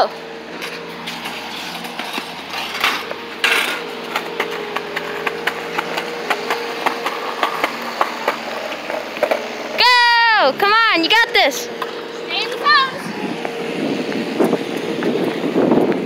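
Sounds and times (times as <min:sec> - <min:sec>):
skateboard wheels on concrete: 0:00.0 - 0:16.0.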